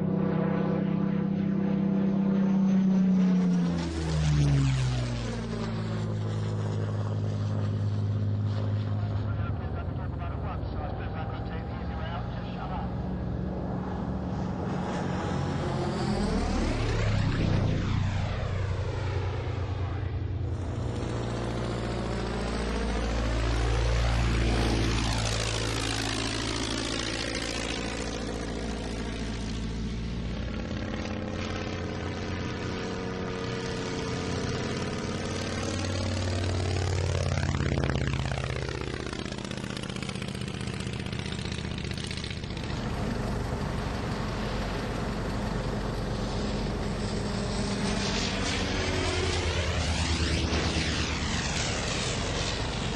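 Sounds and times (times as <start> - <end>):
propeller aircraft engine drone: 0.0 - 52.9.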